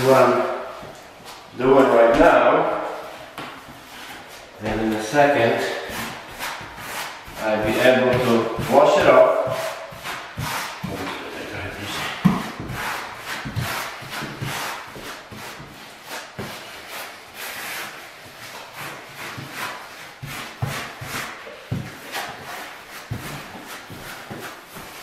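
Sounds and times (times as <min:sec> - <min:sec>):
grout float scraping tiles: 0:00.0 - 0:25.0.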